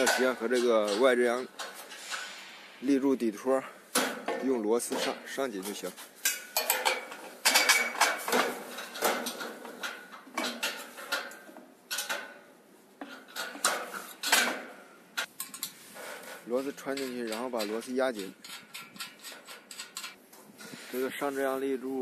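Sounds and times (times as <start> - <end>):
metal bolts and brackets clinking: 0.0 - 20.2.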